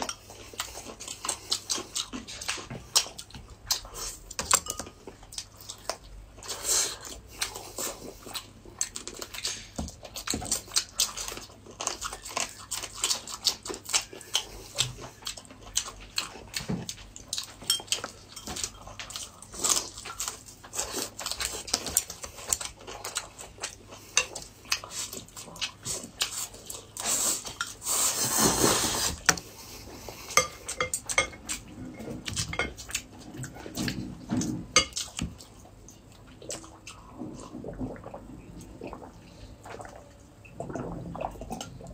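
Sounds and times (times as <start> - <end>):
chewing: 0.0 - 41.9.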